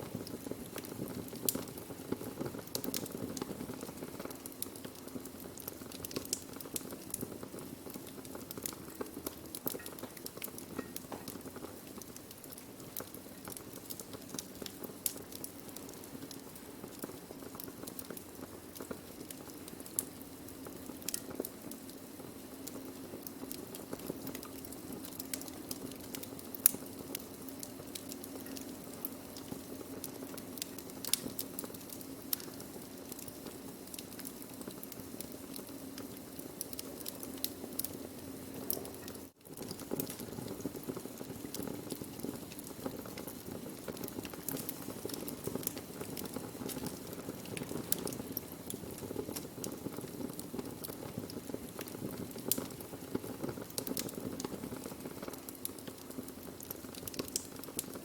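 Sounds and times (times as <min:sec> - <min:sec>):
burning wood crackling and popping: 0:00.0 - 0:58.0
steady low hiss: 0:00.0 - 0:58.0.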